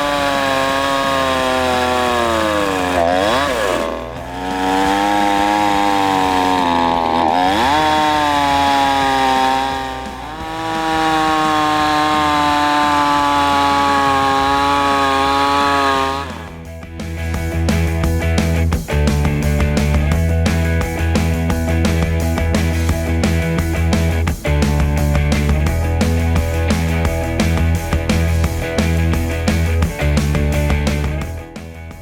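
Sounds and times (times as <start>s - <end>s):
small engine whining: 0.0s - 32.0s.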